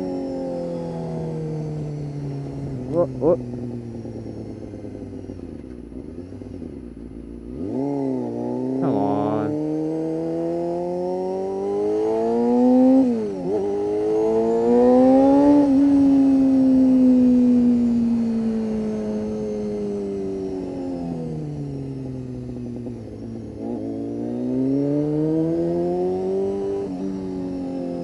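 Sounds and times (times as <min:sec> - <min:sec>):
motorcycle engine revving hard: 0:02.6 - 0:28.0.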